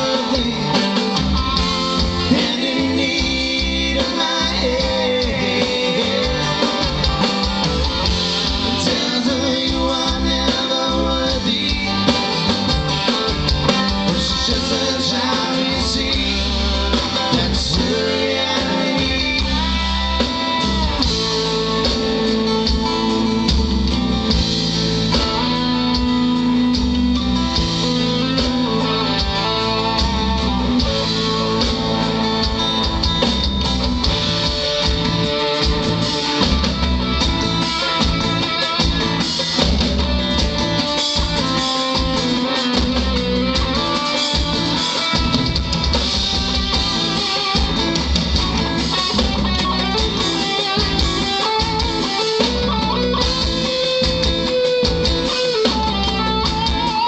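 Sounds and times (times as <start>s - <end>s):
acoustic guitar: 0.0s - 57.0s
bass guitar: 0.0s - 57.0s
drum kit: 0.0s - 57.0s
electric guitar: 0.0s - 57.0s.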